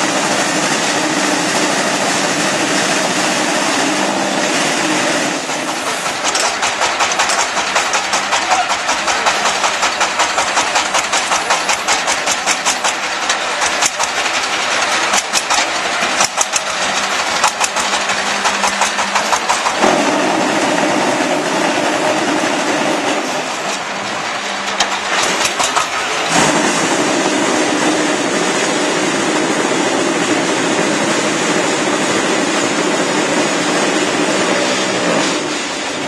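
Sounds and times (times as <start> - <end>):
forklift engine revving: 0.0 - 36.0.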